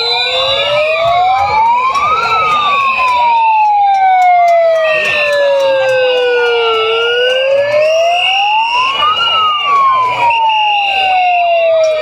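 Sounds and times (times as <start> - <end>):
sirens wailing: 0.0 - 12.0.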